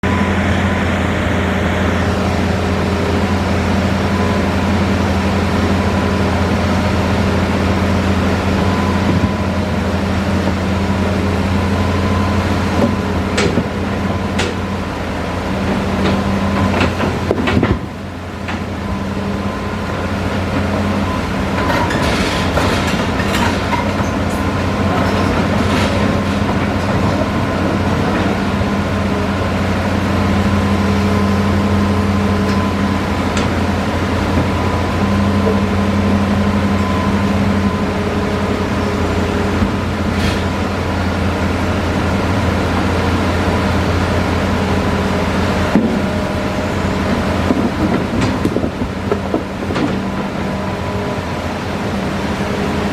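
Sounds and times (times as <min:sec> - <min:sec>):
excavator diesel engine droning: 0:00.0 - 0:52.9.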